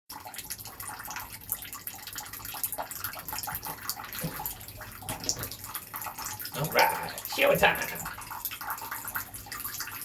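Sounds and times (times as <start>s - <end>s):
tap water running and splashing: 0.1s - 10.0s.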